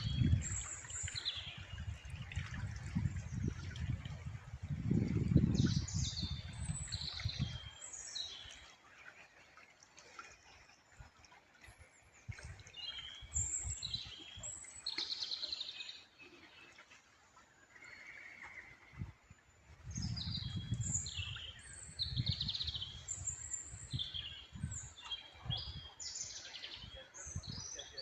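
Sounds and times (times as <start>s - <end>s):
songbirds chirping: 0.0s - 2.4s, 5.4s - 28.0s.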